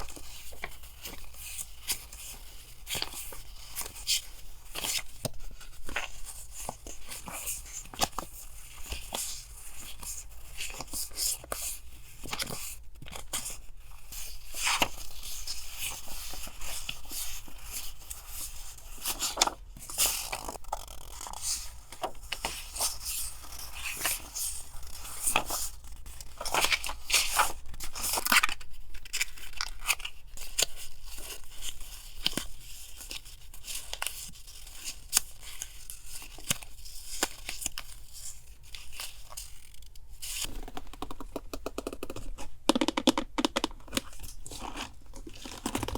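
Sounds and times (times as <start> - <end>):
paper rustling and crinkling: 0.0 - 40.9, 43.9 - 45.9.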